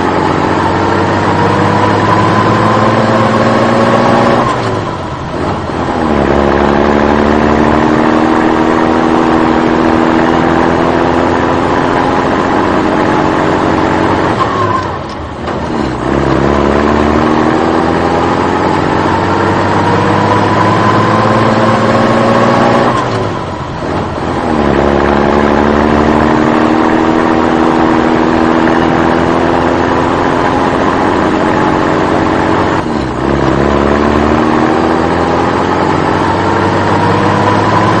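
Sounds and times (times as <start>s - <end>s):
vehicle engine shifting up gears: 0.0s - 38.0s.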